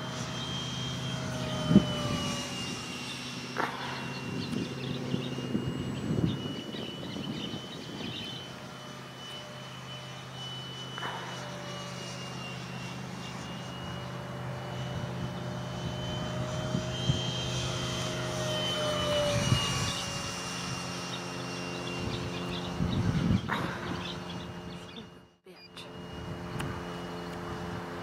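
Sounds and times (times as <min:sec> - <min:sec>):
electric ducted fan whine: 0:00.0 - 0:28.0.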